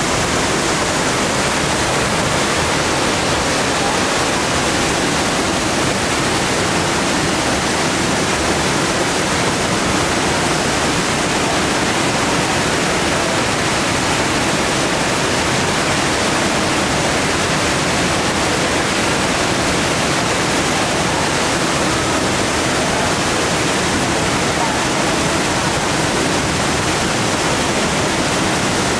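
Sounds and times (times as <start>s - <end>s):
waterfall rushing into pool: 0.0s - 28.9s.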